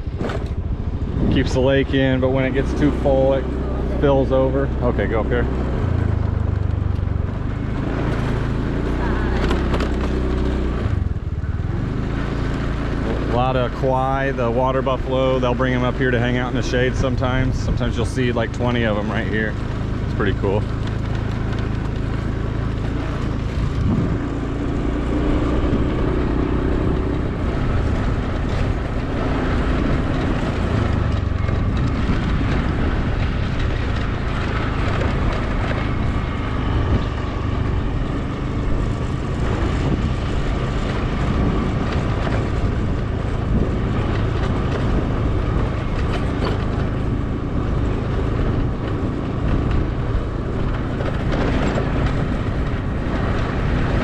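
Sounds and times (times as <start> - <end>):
small motorbike engine running: 0.0 - 13.6, 15.1 - 54.0
road and wind noise: 0.0 - 54.0.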